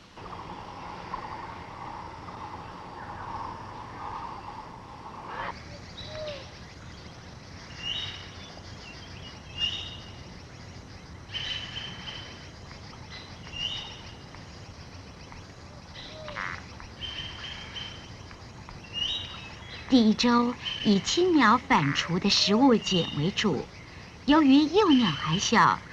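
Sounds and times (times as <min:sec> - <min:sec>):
steady forest hiss: 0:00.0 - 0:25.9.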